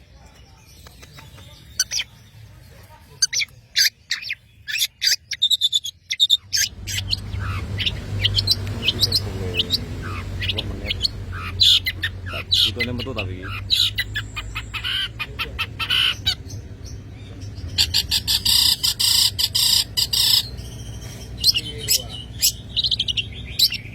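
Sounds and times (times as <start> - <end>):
bird chirping: 0.0 - 23.9.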